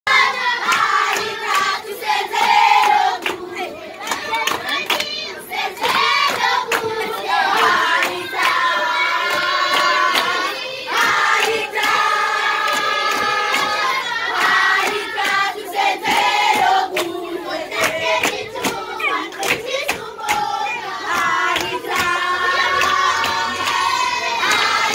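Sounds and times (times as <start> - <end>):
children singing: 0.1 - 24.9
hands clapping: 0.1 - 24.9.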